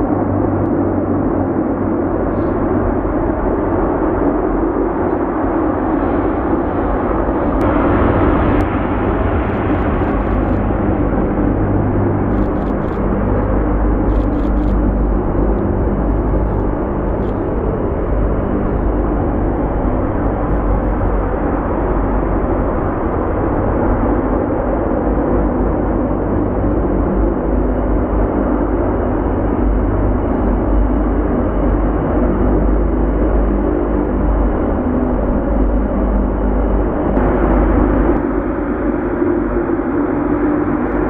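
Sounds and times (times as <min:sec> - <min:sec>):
loud jet engine noise: 0:00.0 - 0:41.0.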